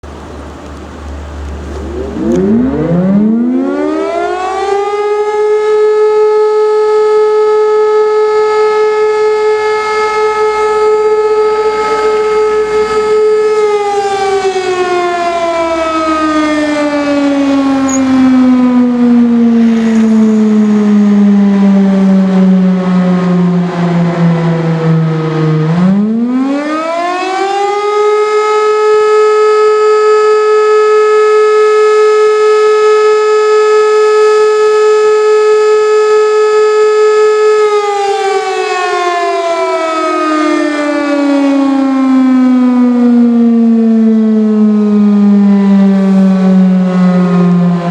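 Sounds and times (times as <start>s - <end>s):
air-raid siren wailing: 0.0s - 47.9s.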